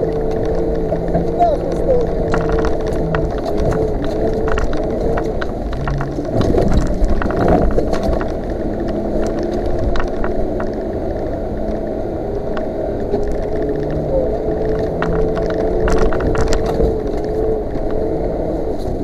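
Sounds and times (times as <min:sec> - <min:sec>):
knocks and rattles over bumps: 0:00.0 - 0:11.8, 0:12.5 - 0:18.0
vehicle engine running: 0:00.0 - 0:19.0.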